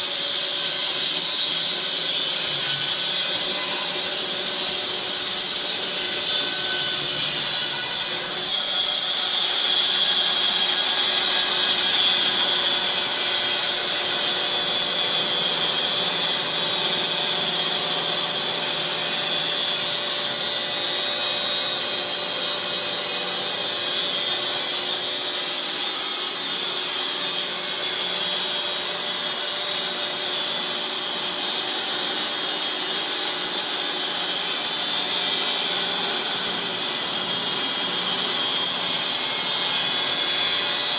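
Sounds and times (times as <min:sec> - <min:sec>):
band sawmill cutting wood: 0:00.0 - 0:40.9.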